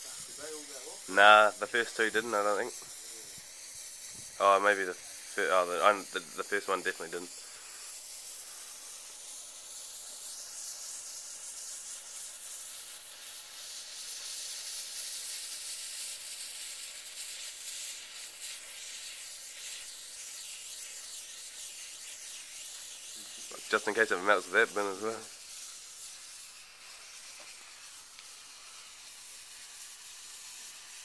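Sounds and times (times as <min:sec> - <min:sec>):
firework fountain hissing: 0:00.0 - 0:31.0.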